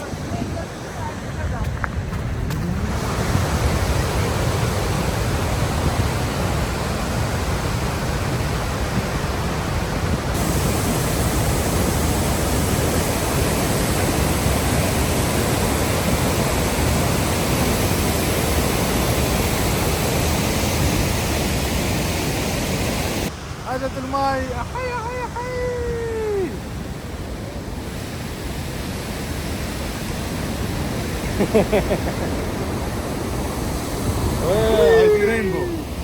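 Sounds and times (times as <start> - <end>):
waterfall rushing: 2.6 - 36.0.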